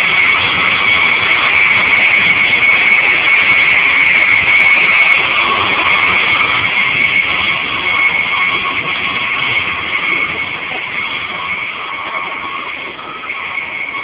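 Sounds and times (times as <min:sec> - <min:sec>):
train wheels rushing on rails: 0:00.0 - 0:14.0.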